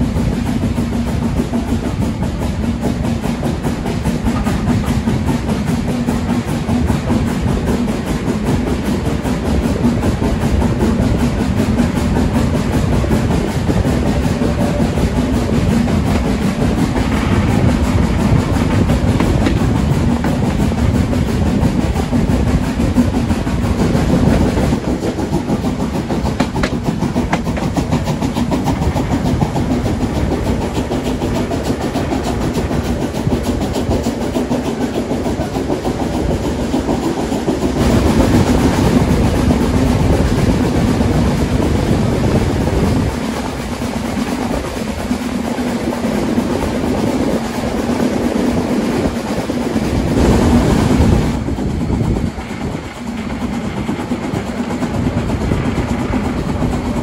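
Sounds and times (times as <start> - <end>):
train rumbling: 0.0 - 57.0
wheels clacking over rail joints: 0.0 - 57.0.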